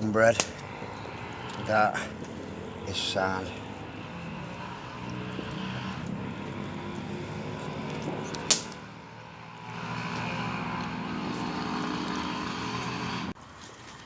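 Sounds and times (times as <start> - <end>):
low engine drone: 0.0 - 13.4.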